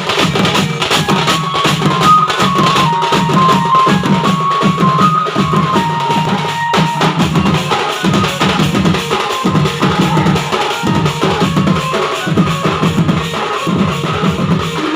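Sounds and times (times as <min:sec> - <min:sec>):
heavy bass drum beat: 0:00.0 - 0:14.9
loud fast drumming: 0:00.0 - 0:14.9
snare drum strokes: 0:00.0 - 0:14.9.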